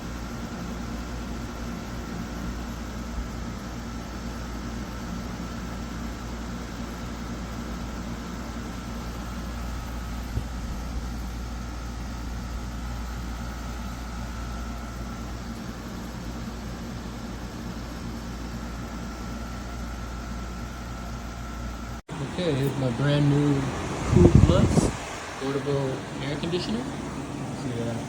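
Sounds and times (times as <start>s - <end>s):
air conditioner running: 0.0s - 28.0s.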